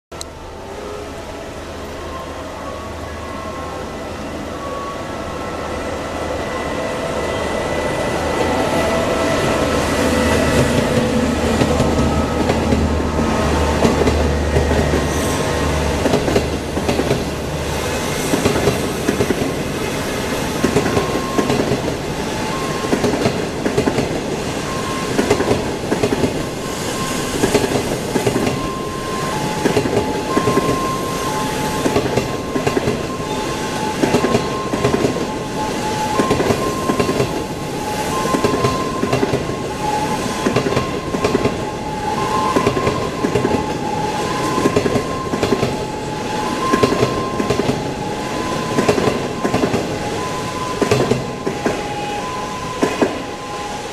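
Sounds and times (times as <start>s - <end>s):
electric locomotive hum: 0.1s - 53.9s
train wheels clickety-clack: 8.3s - 52.0s, 52.7s - 53.3s.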